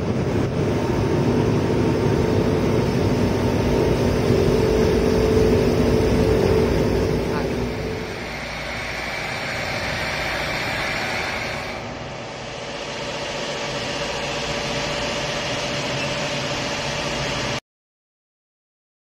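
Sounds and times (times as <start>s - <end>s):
factory machinery humming and hissing: 0.0s - 17.6s.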